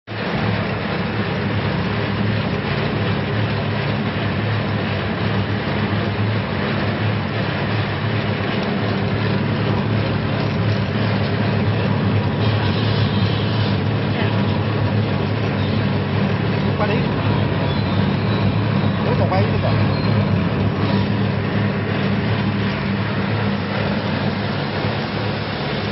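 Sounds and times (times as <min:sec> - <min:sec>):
motor hum: 0:00.1 - 0:25.9
water jets splashing: 0:00.1 - 0:25.9.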